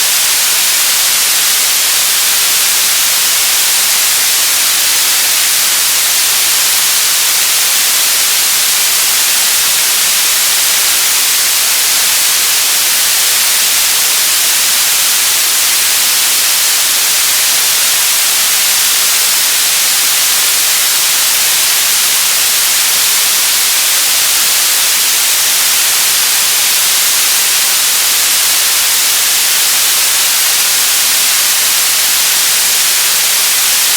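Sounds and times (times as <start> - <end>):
tv static hiss: 0.0 - 33.9.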